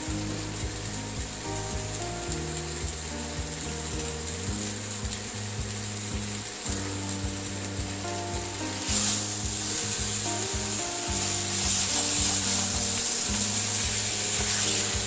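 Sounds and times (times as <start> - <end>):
food sizzling in a pan: 0.0 - 15.0
soft background music: 0.0 - 15.0.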